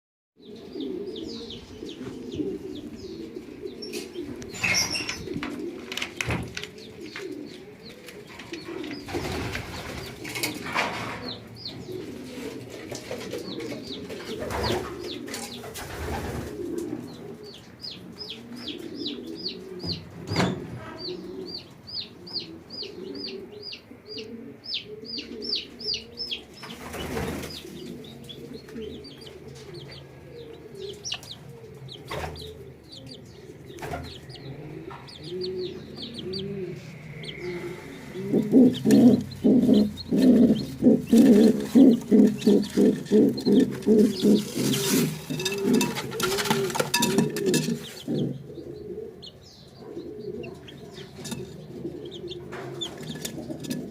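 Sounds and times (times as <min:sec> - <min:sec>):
chicks peeping: 0:00.4 - 0:53.9
pigeon cooing: 0:00.4 - 0:53.9.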